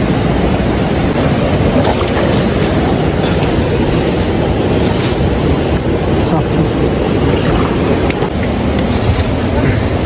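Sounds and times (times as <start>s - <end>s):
fast-flowing river rushing: 0.0s - 10.0s.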